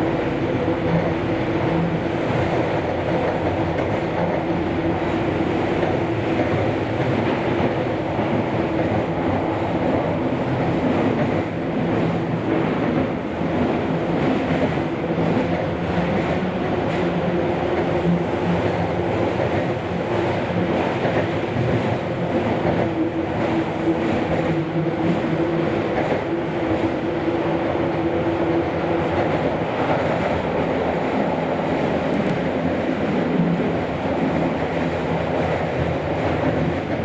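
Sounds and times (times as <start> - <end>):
train rumbling through tunnel: 0.0 - 37.0.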